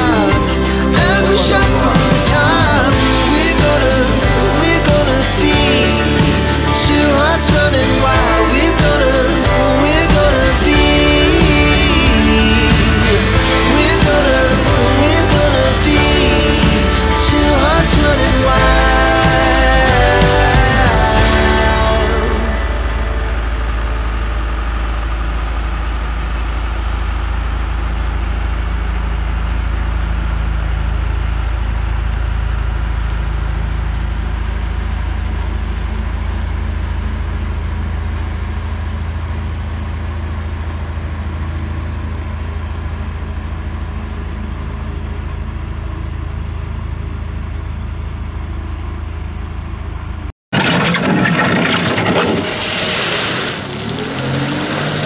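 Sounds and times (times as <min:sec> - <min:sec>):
loader pushing crushed stone: 0:00.0 - 0:47.1, 0:50.5 - 0:55.0
excavator diesel engine running: 0:00.0 - 0:55.0
wheel loader engine: 0:00.0 - 0:55.0.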